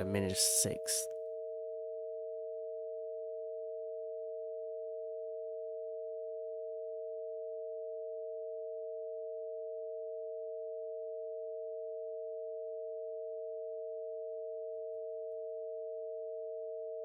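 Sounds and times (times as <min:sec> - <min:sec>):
two steady sine tones: 0:01.6 - 0:17.0.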